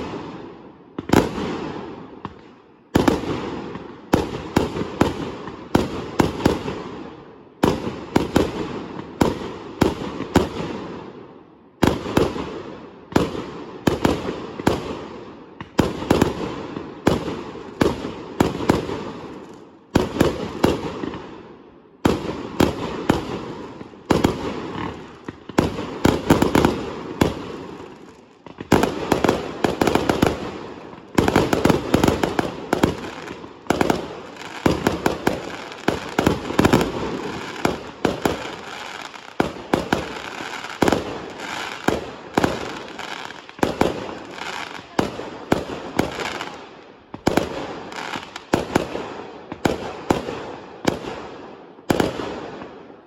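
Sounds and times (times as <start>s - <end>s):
fireworks bangs: 0.0s - 11.1s, 11.8s - 52.9s.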